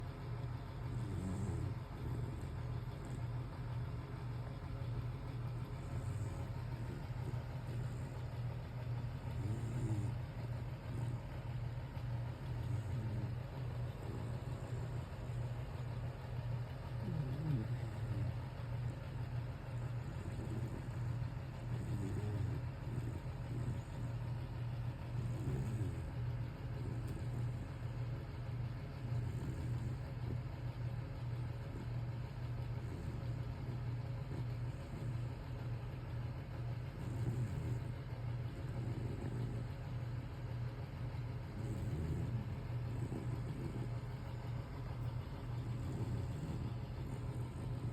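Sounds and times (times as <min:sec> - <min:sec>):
dog snoring: 0:00.0 - 0:47.9.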